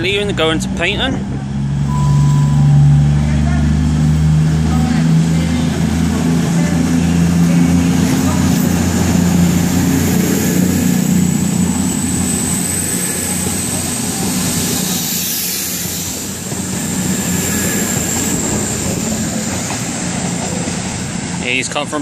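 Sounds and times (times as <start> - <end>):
diesel train pulling out: 0.0 - 22.0
high engine whine: 0.0 - 22.0.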